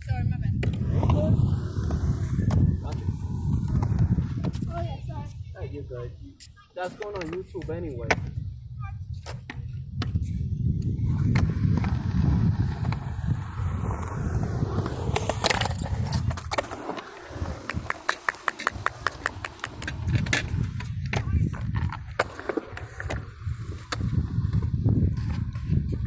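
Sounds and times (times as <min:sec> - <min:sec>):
skateboard wheels rolling on concrete: 0:00.0 - 0:26.0
skateboard scrape: 0:00.1 - 0:07.4, 0:08.8 - 0:26.0.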